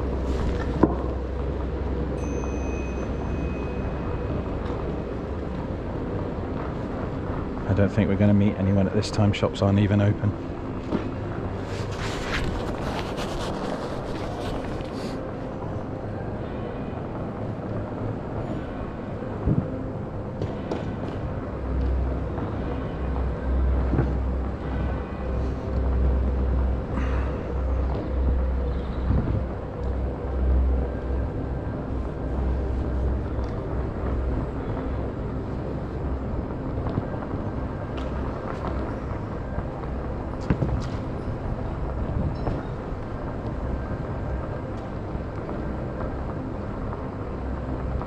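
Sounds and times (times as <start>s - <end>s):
faint steady hum: 0.0s - 48.0s
wind rumble on microphone: 0.0s - 48.0s.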